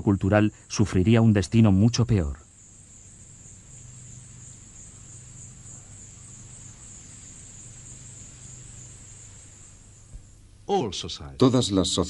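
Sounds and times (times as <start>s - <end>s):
faint low hum: 0.0s - 12.0s
insects trilling: 0.0s - 12.0s.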